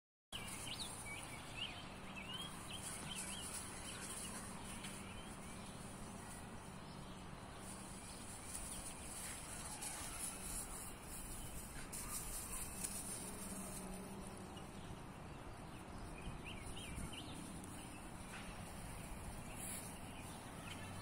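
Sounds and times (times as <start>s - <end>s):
bird chirping: 0.3s - 13.6s, 14.5s - 21.0s.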